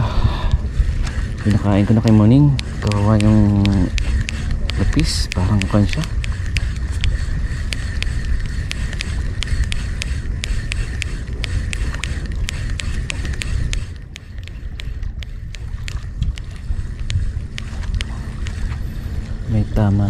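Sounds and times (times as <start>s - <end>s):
wind rumble on microphone: 0.0s - 20.0s
fishing reel ticking: 0.7s - 20.0s.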